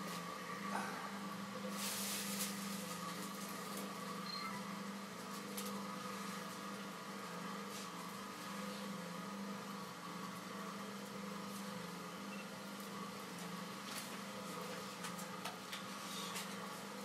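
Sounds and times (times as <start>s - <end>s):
potter's wheel humming: 0.0s - 17.0s.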